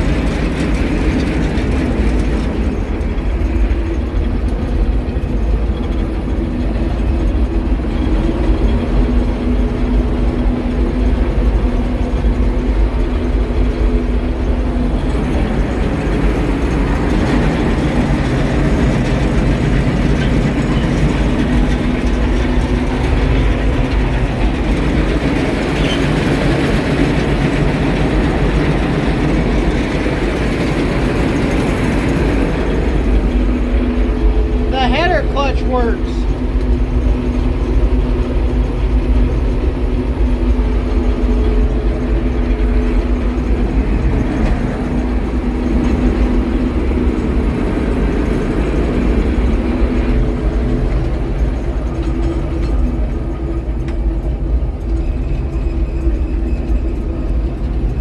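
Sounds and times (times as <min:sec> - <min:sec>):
combine diesel engine running: 0:00.0 - 0:58.0.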